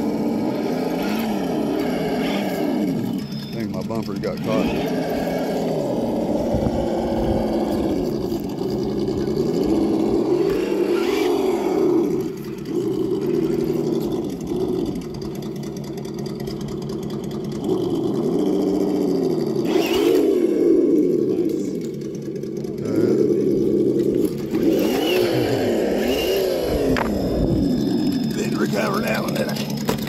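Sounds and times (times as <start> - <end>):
electric motor whining: 0.0 - 30.0.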